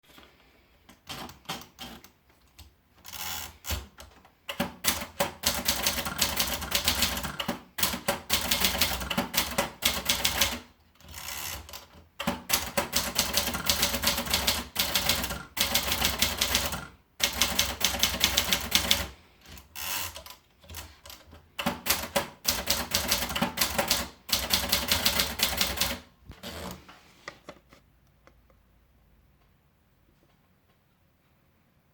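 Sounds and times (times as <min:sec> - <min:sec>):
manual typewriter typing: 0:00.9 - 0:26.8.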